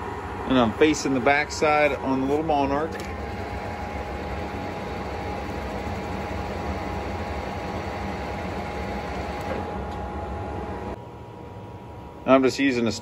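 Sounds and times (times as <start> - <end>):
lathe machine hum: 0.0 - 11.0
thin steady whine: 0.0 - 13.0.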